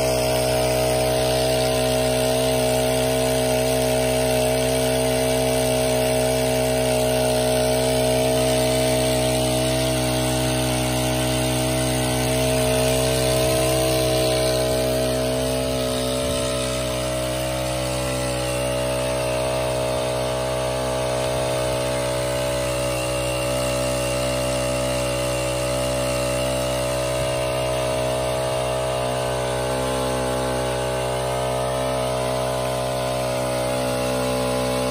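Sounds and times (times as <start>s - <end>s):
small petrol engine running: 0.0s - 34.9s
water jet spraying: 0.0s - 34.9s.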